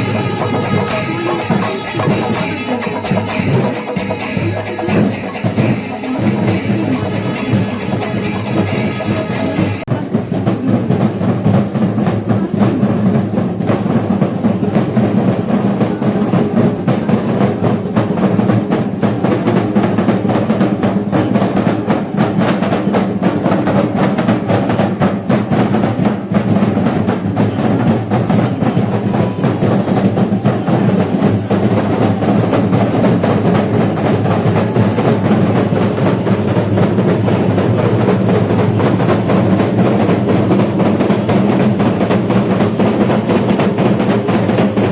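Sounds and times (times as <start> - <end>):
drum ensemble beating fast rhythm: 0.0 - 44.9.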